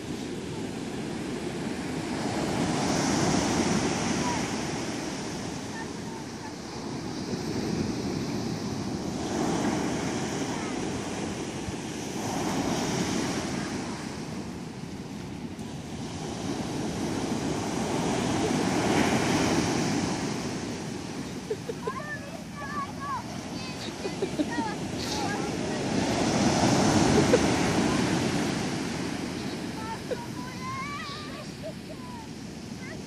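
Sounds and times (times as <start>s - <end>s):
ocean waves breaking on beach: 0.0s - 33.0s.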